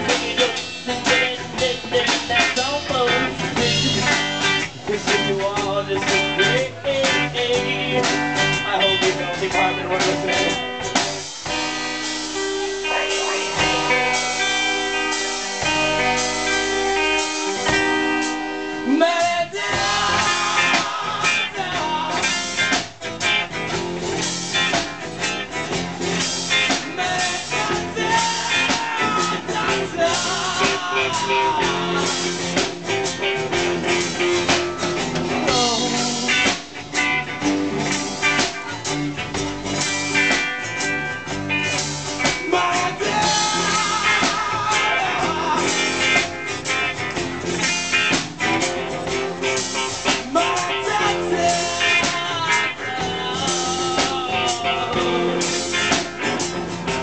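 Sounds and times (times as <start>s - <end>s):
blues-rock band playing: 0.0s - 57.0s
drum kit: 0.0s - 57.0s
guitar chords: 0.0s - 57.0s.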